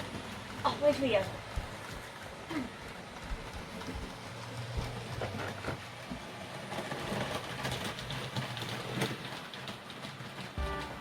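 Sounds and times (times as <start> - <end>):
wheels clicking over track: 0.0 - 11.0.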